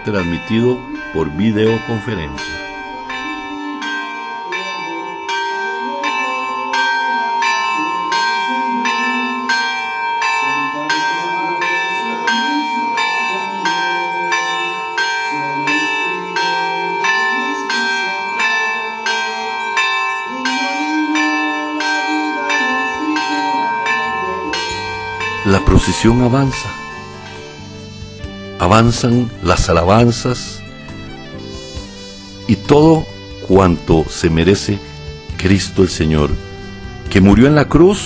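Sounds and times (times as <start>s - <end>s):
church bells pealing: 0.0s - 38.0s.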